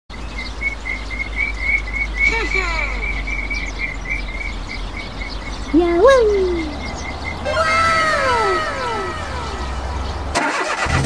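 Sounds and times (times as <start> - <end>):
insect chirping: 0.2 - 10.3
brief falling calls: 0.9 - 10.8.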